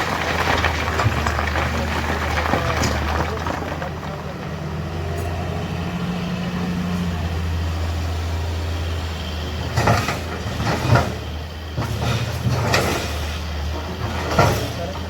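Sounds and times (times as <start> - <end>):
heavy machinery engine humming: 0.0 - 15.0.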